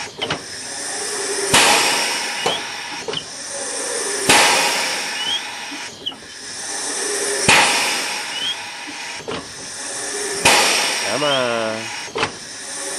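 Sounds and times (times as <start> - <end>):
compressed air hissing: 0.0 - 12.9
sharp air blasts: 0.0 - 12.9.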